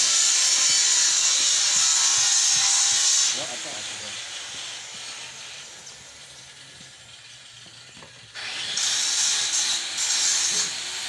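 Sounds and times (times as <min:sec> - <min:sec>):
loud steady hiss: 0:00.0 - 0:07.6, 0:08.3 - 0:11.0.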